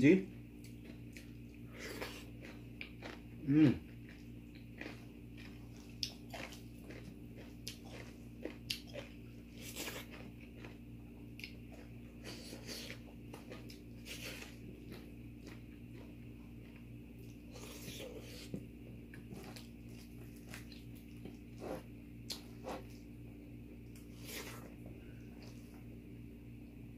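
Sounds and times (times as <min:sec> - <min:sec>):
person chewing and crunching food: 0:00.3 - 0:26.1.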